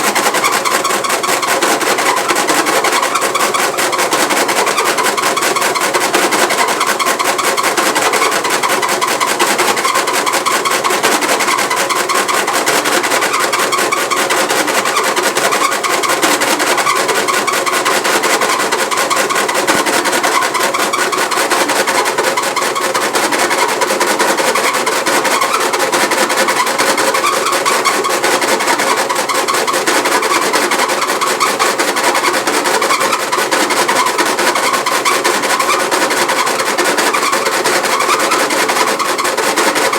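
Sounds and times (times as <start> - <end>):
washing machine rattling: 0.0 - 39.9.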